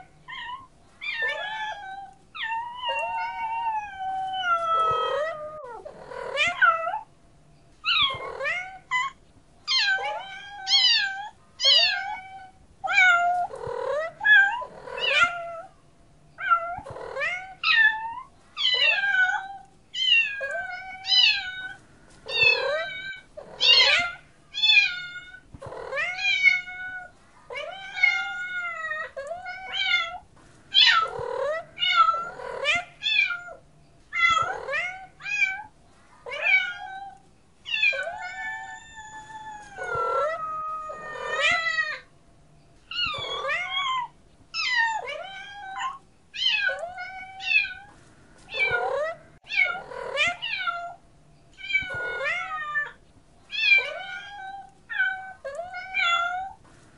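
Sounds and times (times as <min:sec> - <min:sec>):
cats meowing: 0:00.0 - 0:07.1, 0:07.8 - 0:15.7, 0:16.4 - 0:42.1, 0:42.8 - 0:56.7.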